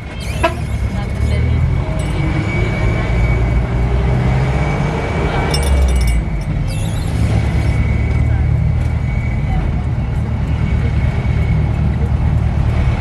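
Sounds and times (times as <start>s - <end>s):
bus engine running: 0.0s - 13.0s.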